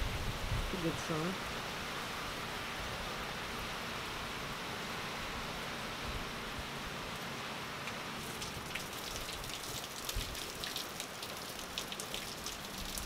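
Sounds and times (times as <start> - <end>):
heavy rain on hard surfaces: 0.0 - 13.0.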